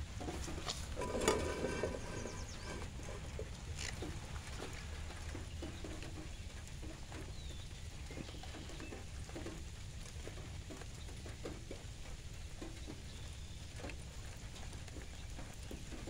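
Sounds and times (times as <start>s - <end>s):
raindrops tapping on saucepans: 0.0s - 16.0s
steady rain patter: 0.0s - 16.0s.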